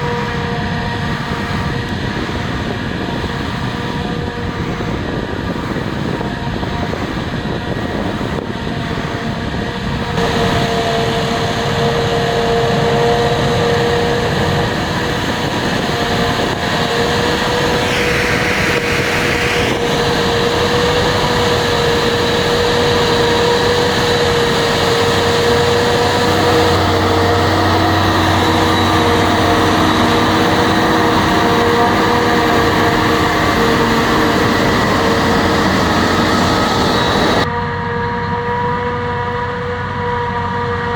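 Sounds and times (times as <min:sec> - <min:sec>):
diesel engines under load: 0:00.0 - 0:40.9
mechanical whine: 0:00.0 - 0:40.9.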